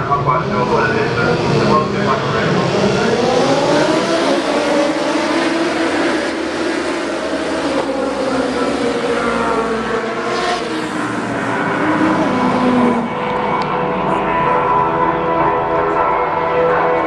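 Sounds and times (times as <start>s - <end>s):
superbike engines revving: 0.0s - 17.0s.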